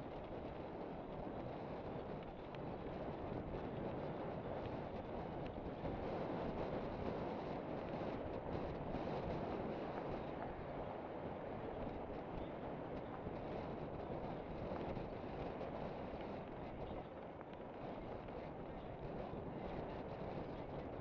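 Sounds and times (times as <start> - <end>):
wind buffeting microphone: 0.0 - 21.0
bike tyres rolling on gravel: 0.2 - 21.0.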